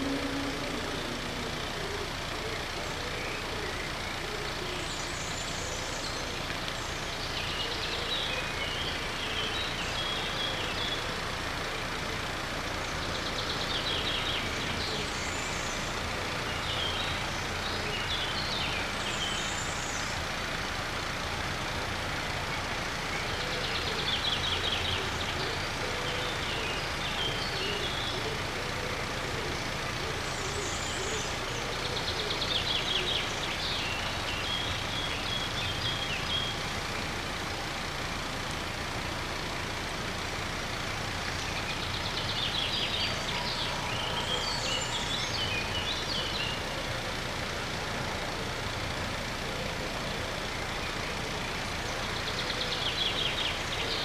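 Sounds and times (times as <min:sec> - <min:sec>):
road traffic rumble: 0:00.0 - 0:54.0
songbird singing: 0:00.0 - 0:54.0.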